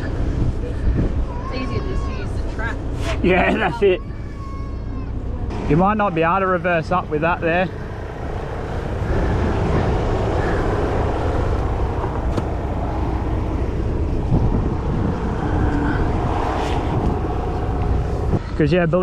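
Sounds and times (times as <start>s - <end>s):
engine low rumble: 0.0s - 19.0s.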